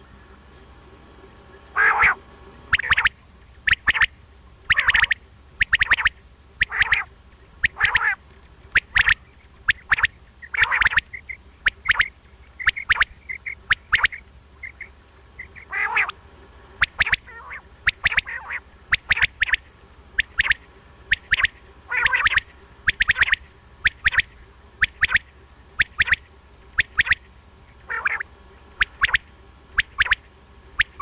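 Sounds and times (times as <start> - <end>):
quail rasping calls: 1.4 - 31.0
quail clicking notes: 1.6 - 16.2, 16.8 - 31.0.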